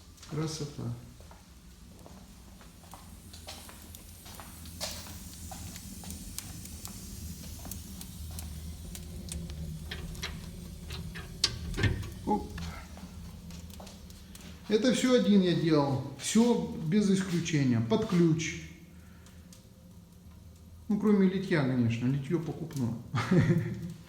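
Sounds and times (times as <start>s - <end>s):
low rumble of draft: 0.0s - 24.0s
wood fire crackling: 0.0s - 24.0s.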